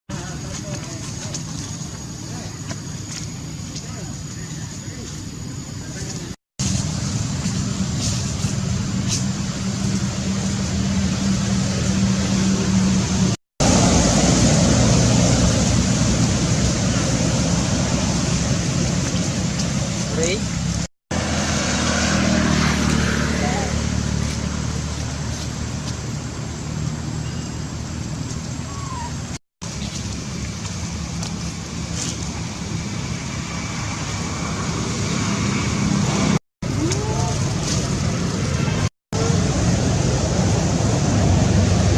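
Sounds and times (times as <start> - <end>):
low motor hum: 0.1 - 41.9.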